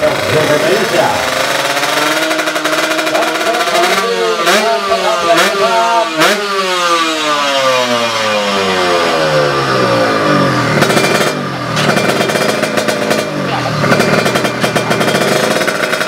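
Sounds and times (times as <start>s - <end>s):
motorcycle engine revving and popping: 0.0s - 16.0s.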